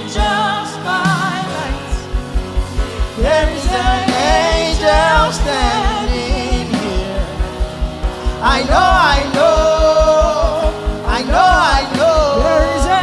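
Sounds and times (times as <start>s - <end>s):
congregation singing with vibrato: 0.0s - 13.0s
live band playing: 0.0s - 13.0s
steady low beat: 1.6s - 13.0s.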